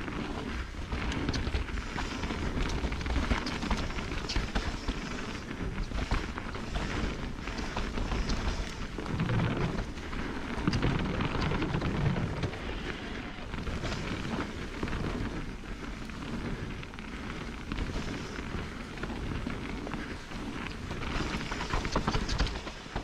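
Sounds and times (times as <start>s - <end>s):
bike rattling over bumps: 0.0s - 23.0s
tyres crunching over dirt: 0.0s - 23.0s
wind on microphone: 0.0s - 23.0s.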